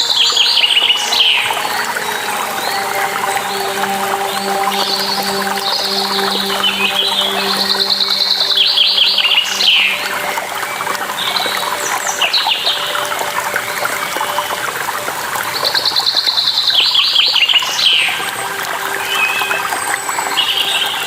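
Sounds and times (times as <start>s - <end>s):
trickle of running water: 0.0s - 21.0s.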